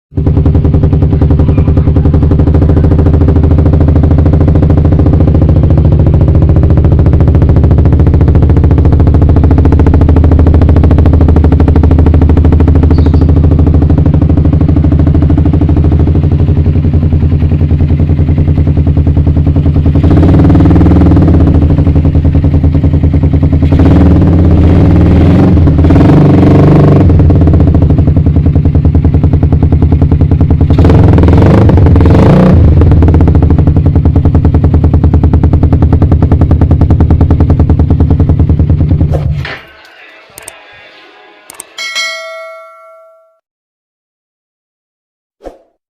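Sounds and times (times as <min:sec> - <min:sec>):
motorcycle engine idling and revving: 0:00.1 - 0:40.9.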